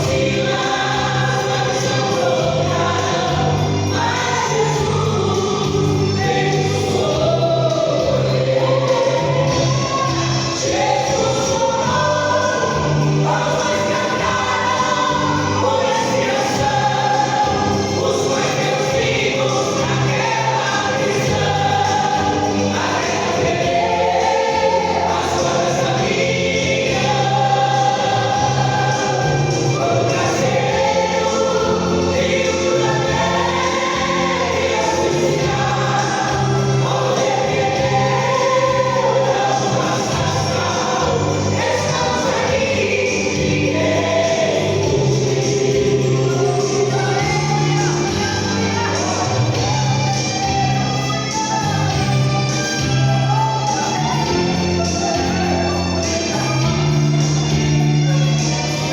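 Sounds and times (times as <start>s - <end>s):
choir singing gospel: 0.0s - 58.9s
instrumental bass line: 0.0s - 58.9s.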